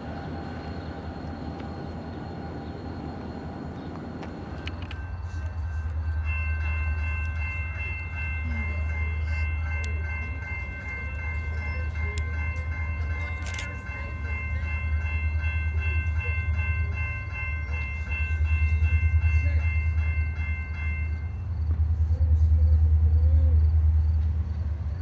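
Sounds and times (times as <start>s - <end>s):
freight train engine rumble: 0.0s - 25.0s.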